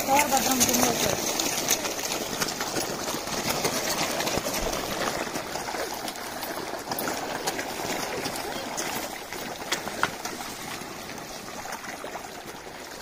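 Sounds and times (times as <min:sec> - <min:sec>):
fish splashing at water surface: 0:00.0 - 0:13.0.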